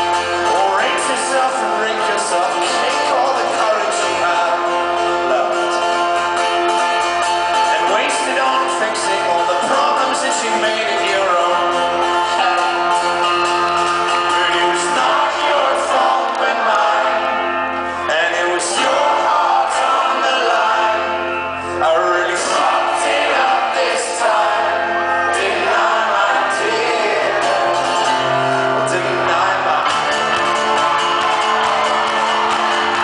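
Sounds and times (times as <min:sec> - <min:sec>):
man singing lead vocal: 0:00.0 - 0:06.1, 0:07.5 - 0:30.8
folk-rock band playing: 0:00.0 - 0:33.0.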